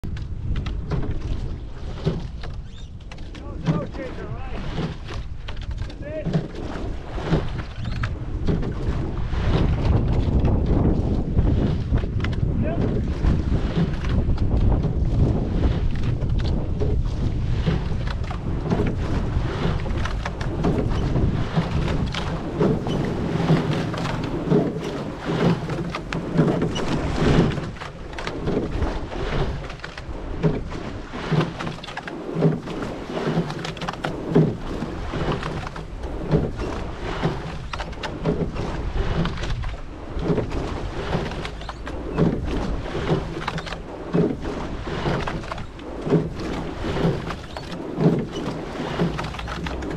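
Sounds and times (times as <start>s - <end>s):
oars knocking in oarlocks: 0.0s - 49.9s
wind buffeting microphone: 0.0s - 49.9s
water rushing past: 3.3s - 49.9s.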